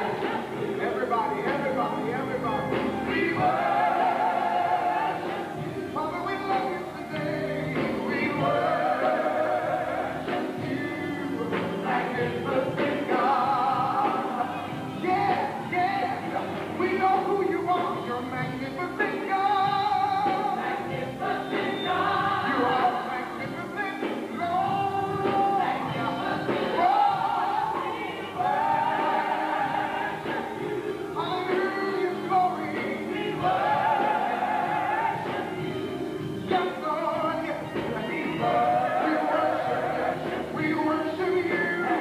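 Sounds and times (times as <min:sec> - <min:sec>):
gospel choir singing: 0:00.0 - 0:42.0
live band playing: 0:00.0 - 0:42.0.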